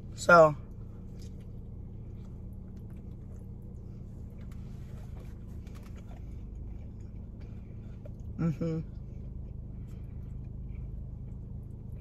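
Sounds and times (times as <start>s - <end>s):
low car cabin hum: 0.0s - 12.0s
chewing with mouth clicks: 0.7s - 12.0s.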